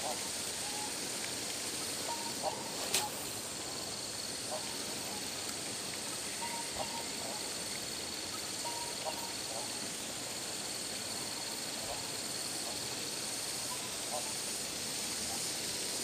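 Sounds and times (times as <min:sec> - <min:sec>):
insects chirring: 0:00.0 - 0:16.0
soft outdoor hiss: 0:00.0 - 0:16.0.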